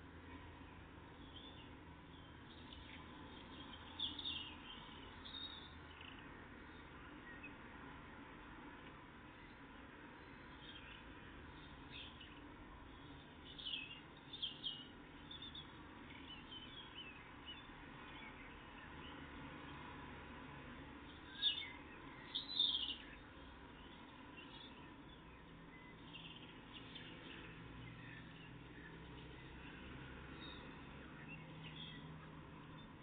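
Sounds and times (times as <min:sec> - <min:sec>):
birds chirping: 0:00.6 - 0:07.7, 0:09.2 - 0:19.4, 0:21.0 - 0:33.0.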